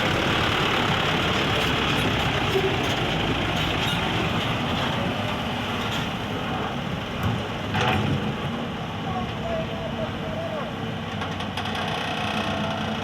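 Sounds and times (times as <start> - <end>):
dump truck engine running: 0.0 - 11.2.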